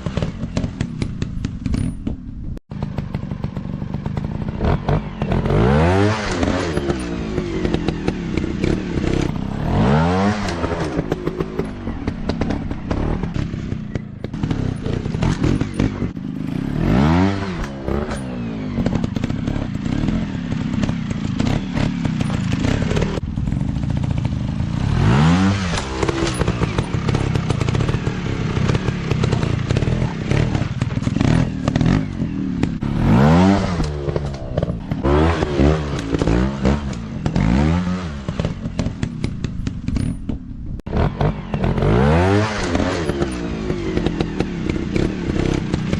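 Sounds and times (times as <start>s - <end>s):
clatter: 0.0s - 45.9s
dirt bike engines revving: 2.8s - 45.9s.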